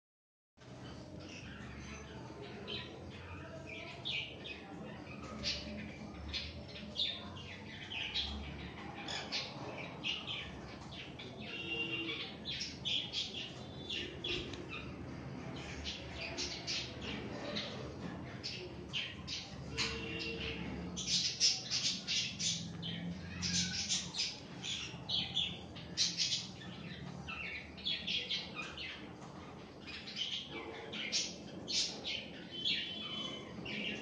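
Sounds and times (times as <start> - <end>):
conures chirping and squawking: 0.8 - 34.0.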